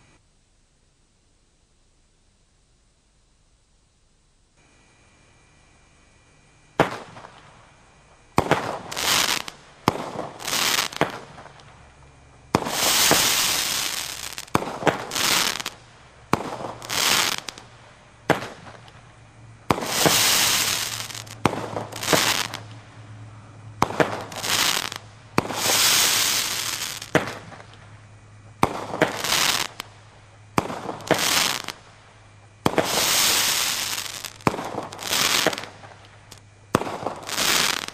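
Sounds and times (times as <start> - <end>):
fireworks bangs with crackling hiss: 6.8 - 23.1, 23.8 - 37.9.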